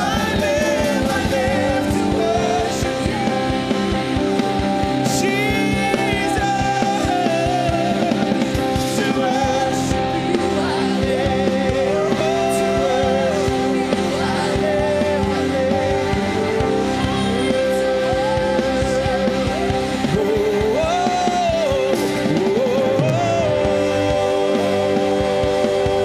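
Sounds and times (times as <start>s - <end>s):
drums: 0.0s - 26.0s
held keyboard chord: 0.0s - 26.0s.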